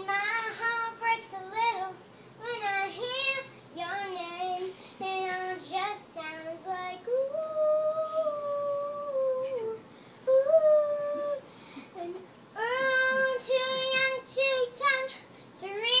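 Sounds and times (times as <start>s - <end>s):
girl singing: 0.0s - 16.0s.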